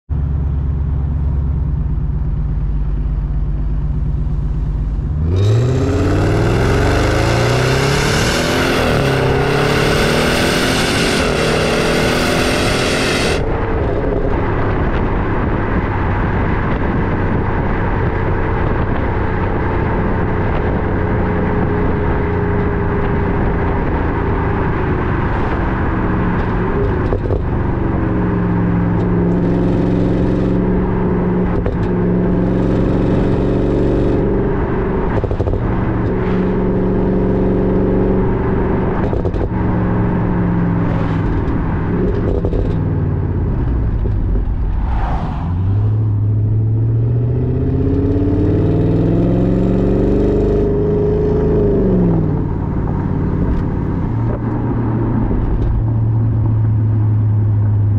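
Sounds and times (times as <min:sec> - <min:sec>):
car engine accelerating: 0:00.1 - 0:57.9
road noise: 0:00.1 - 0:57.9.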